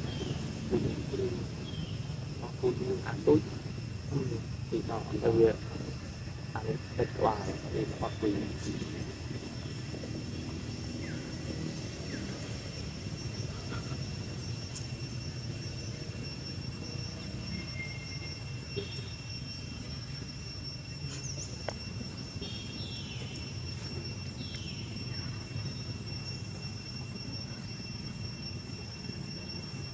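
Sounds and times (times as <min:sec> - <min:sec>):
faint chirps: 0:00.0 - 0:29.9
faint high-pitched tones: 0:00.0 - 0:29.9
low outdoor rumble: 0:00.0 - 0:29.9.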